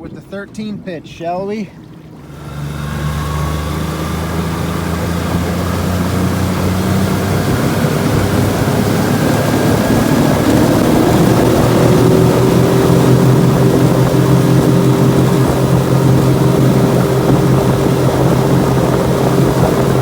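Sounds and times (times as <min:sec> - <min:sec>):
outboard motor running flat out: 0:01.8 - 0:20.0.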